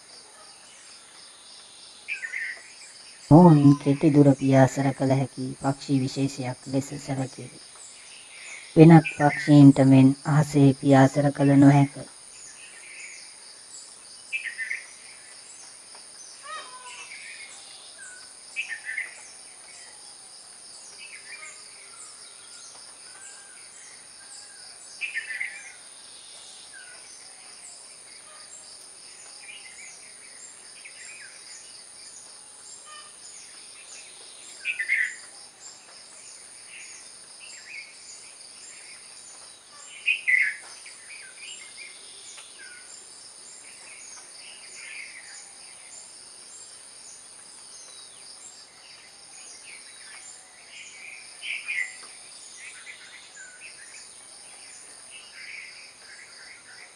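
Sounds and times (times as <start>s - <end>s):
high insect drone: 0.0s - 56.9s.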